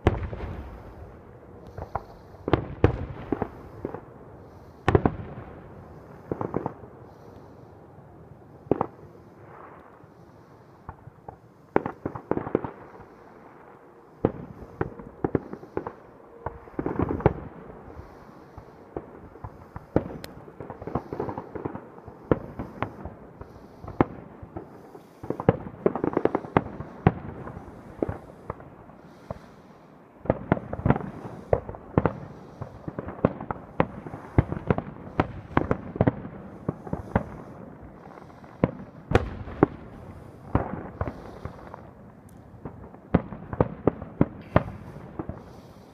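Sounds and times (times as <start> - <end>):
fireworks bursting: 0.0 - 7.5, 10.8 - 13.3, 14.2 - 29.6, 30.2 - 45.9.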